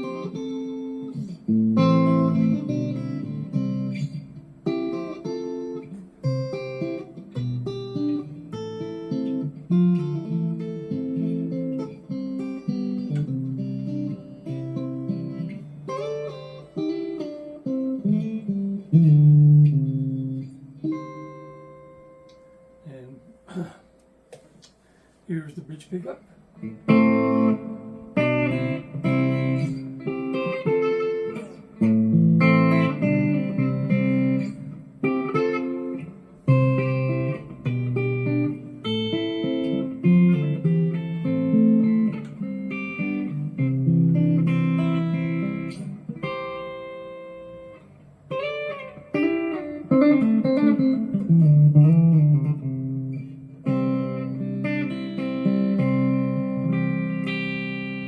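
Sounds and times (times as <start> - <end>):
electric guitar playing: 0.0 - 25.1, 26.2 - 58.0.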